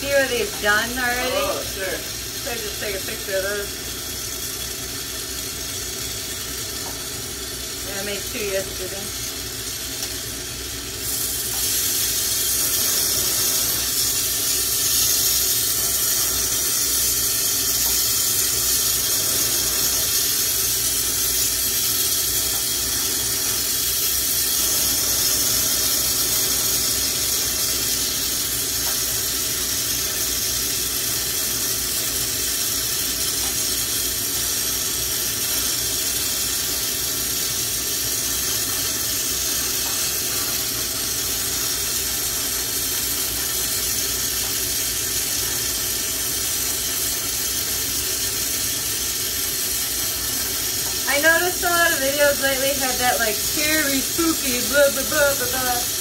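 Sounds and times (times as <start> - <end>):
gas torch flame hissing: 0.0 - 56.0.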